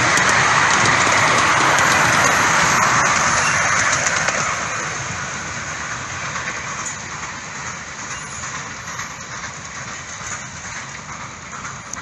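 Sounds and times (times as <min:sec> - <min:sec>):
train carriages rolling on rails: 0:00.0 - 0:12.0
wheels clicking over rail joints: 0:00.0 - 0:12.0.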